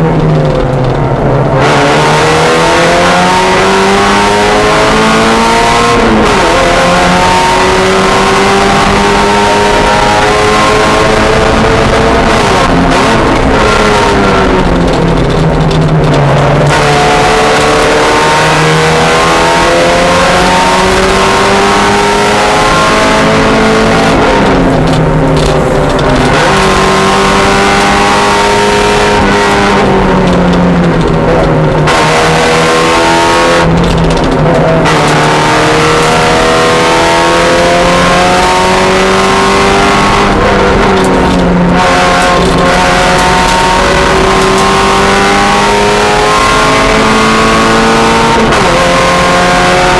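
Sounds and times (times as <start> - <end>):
race car engine revving: 0.0 - 49.9.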